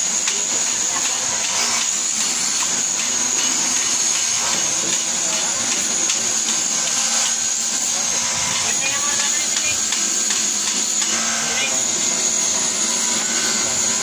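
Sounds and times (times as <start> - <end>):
bench grinder grinding tool bit: 0.0 - 14.0.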